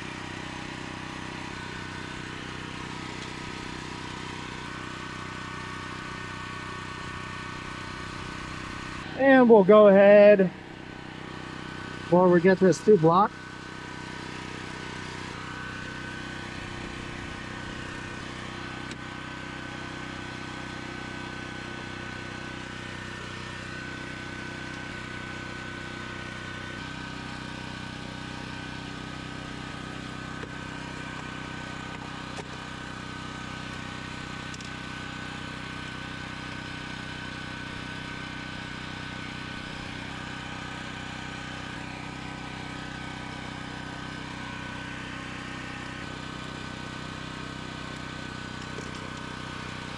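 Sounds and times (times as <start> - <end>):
engine running with high whine: 0.0 - 49.9.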